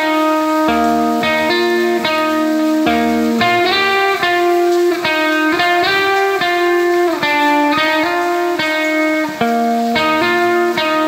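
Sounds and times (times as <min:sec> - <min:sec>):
instrumental melody of held notes: 0:00.0 - 0:11.0.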